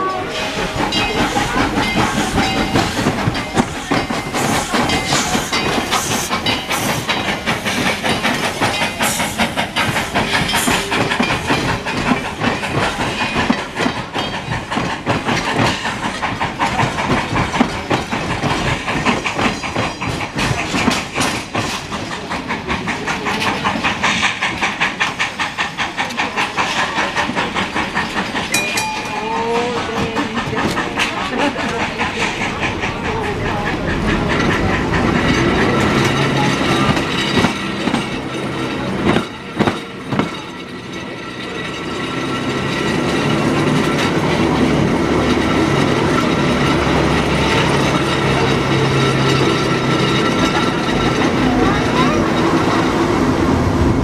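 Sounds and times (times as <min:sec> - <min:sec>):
rapid clicking from wheels and track: 0:00.0 - 0:54.0
train wheels clattering on rails: 0:00.0 - 0:54.0.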